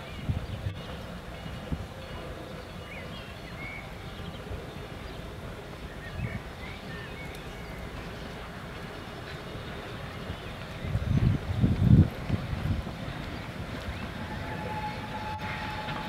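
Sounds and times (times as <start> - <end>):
birds chirping: 0.0 - 16.0
steam train rumbling: 0.0 - 16.0.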